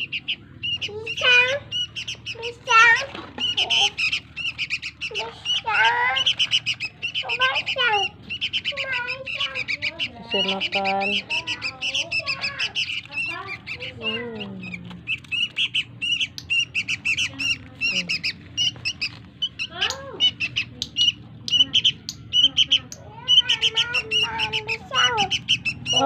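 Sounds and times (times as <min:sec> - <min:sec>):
young bird begging calls: 0:00.0 - 0:26.0.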